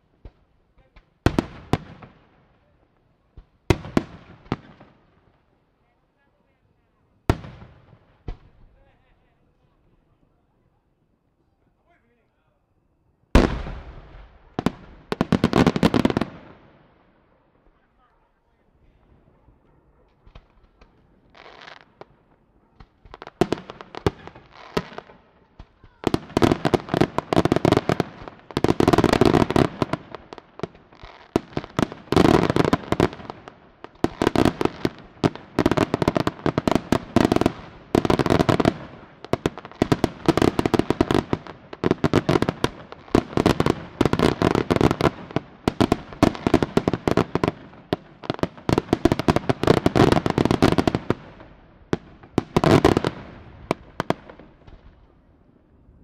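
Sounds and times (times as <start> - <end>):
fireworks reports and crackling: 0.0 - 12.7, 13.3 - 55.9.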